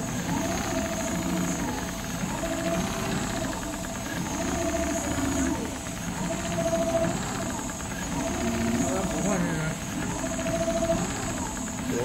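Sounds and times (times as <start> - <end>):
sewing head whine: 0.0 - 12.0
sewing machine needle chatter: 0.0 - 12.0.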